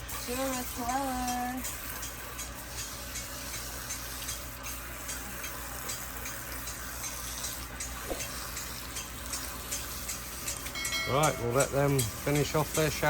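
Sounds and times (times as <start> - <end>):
water spraying and splashing: 0.0 - 13.0.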